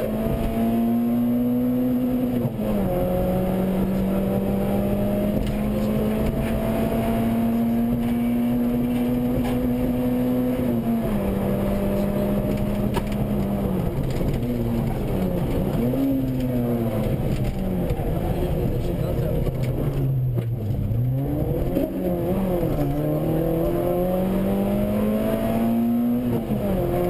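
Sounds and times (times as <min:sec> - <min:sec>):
car engine revving inside cabin: 0:00.0 - 0:27.0.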